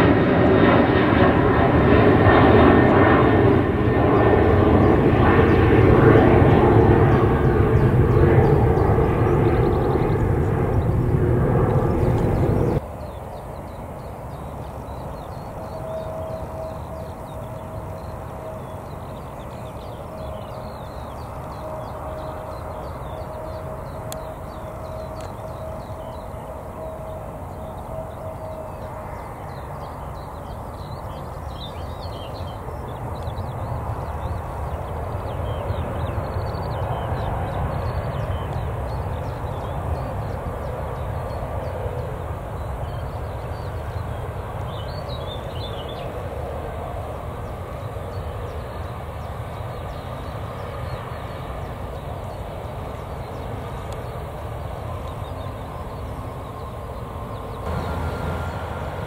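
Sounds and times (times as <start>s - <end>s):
distant jet engines rumbling: 0.0s - 59.0s.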